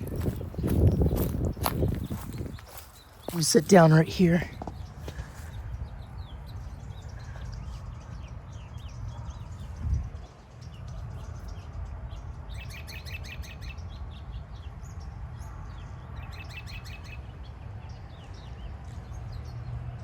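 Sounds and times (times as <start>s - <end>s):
bird chirping: 0.0s - 19.7s
wind buffeting microphone: 0.0s - 19.9s.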